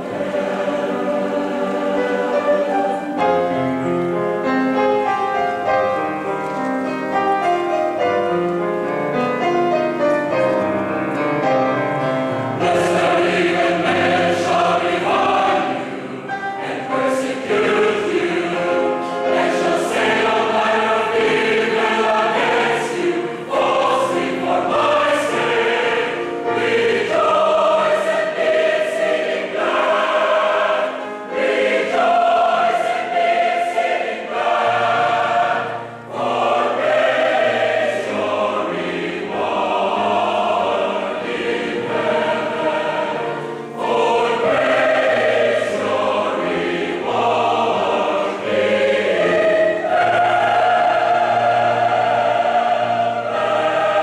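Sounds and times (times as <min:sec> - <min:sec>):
mixed choir singing: 0:00.0 - 0:06.3, 0:07.1 - 0:54.0.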